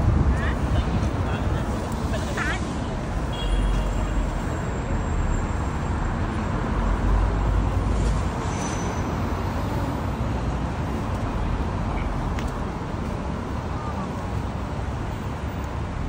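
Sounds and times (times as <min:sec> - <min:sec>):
city street traffic rumble: 0:00.0 - 0:16.0.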